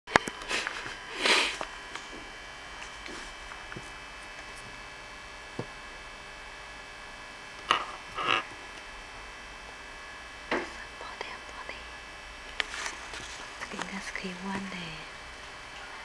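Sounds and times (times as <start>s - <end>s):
electrical mains hum: 0.1s - 16.0s.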